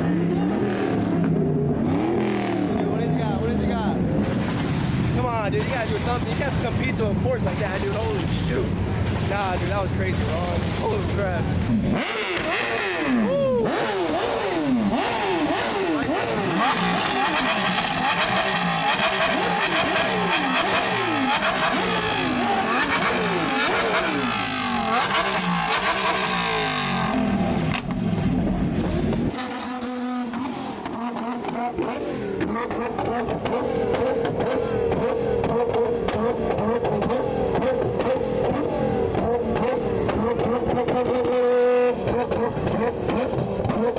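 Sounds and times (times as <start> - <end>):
sports car engine revving: 0.0 - 43.9.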